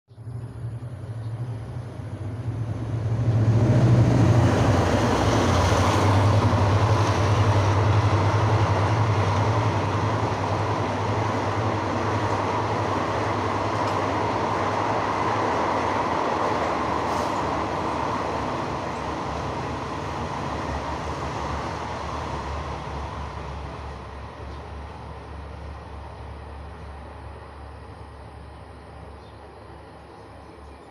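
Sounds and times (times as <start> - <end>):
diesel locomotive engine hum: 0.1 - 30.9
train wheels rumbling on rails: 0.2 - 30.9.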